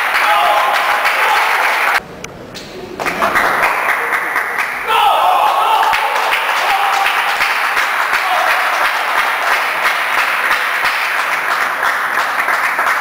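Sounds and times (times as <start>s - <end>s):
audience applauding: 0.0s - 2.0s, 3.0s - 13.0s.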